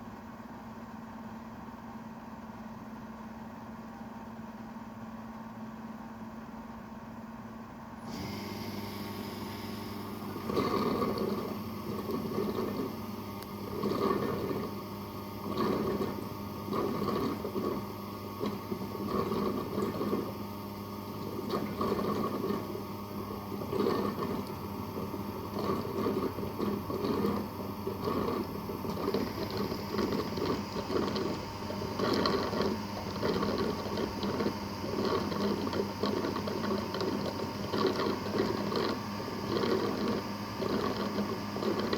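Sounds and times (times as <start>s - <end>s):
robot vacuum motor hum: 8.0s - 41.9s.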